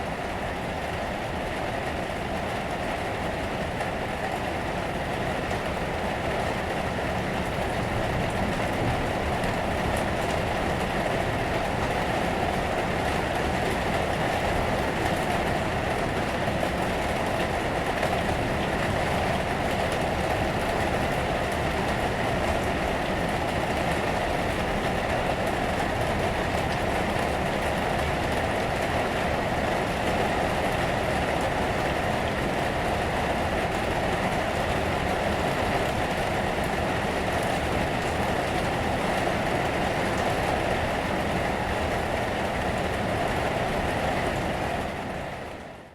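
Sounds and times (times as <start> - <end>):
rain on a roof: 0.0 - 45.9.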